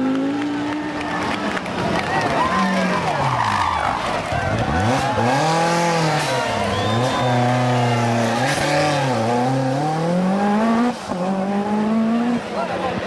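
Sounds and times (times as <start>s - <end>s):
rally car engine revving: 0.0s - 12.8s.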